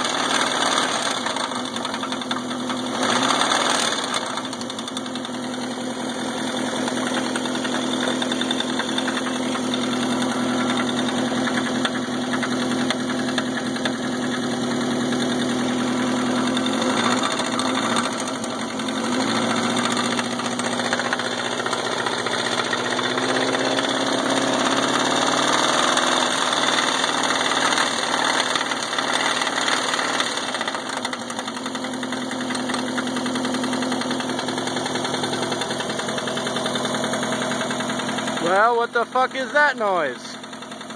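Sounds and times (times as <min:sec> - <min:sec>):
car engine idling: 0:00.0 - 0:40.9
horrid engine noise: 0:00.0 - 0:40.9.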